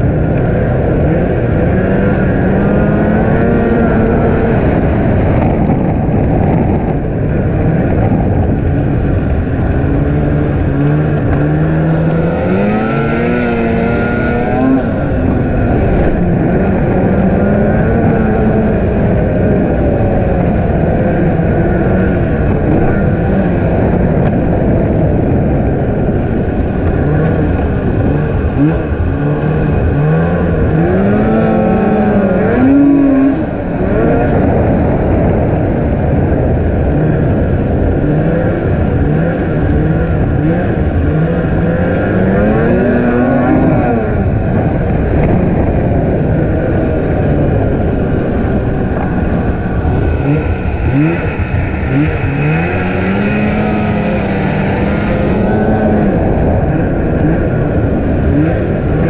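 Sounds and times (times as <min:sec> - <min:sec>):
snowmobile engine revving: 0:00.0 - 0:59.0
steady rush of noise: 0:00.0 - 0:59.0.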